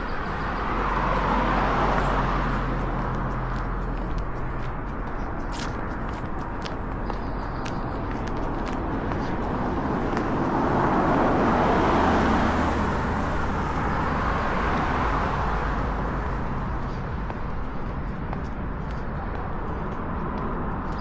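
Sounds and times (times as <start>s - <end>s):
car passing on road: 0.0s - 21.0s.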